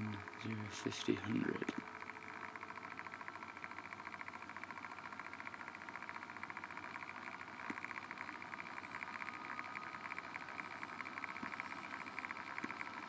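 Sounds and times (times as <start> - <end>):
machine buzz with fast flutter: 0.0 - 13.0.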